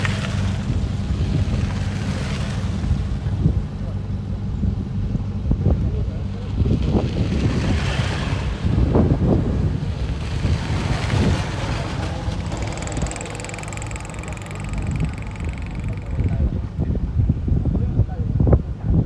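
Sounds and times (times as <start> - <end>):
diesel engine under load: 0.0 - 6.5, 7.8 - 17.2.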